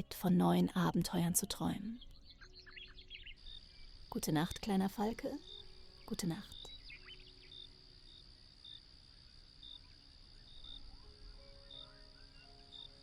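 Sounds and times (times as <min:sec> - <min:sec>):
cricket chirping: 0:00.0 - 0:13.0
soft music of held notes: 0:00.0 - 0:13.0.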